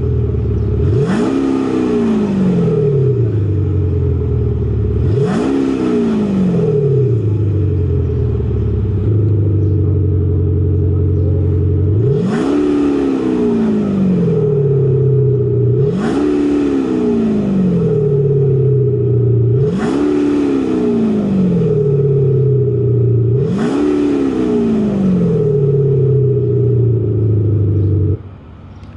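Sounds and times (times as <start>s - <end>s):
artificial exhaust note revving: 0.7s - 28.2s.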